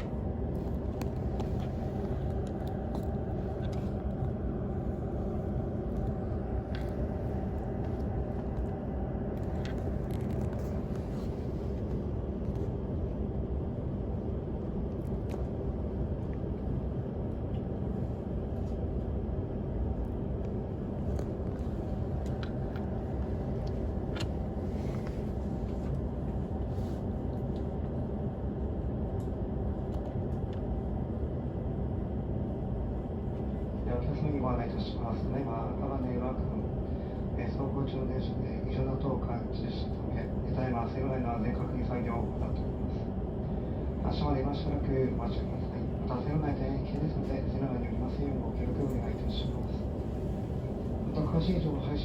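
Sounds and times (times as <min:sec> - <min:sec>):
train carriage equipment hum: 0:00.0 - 0:52.0.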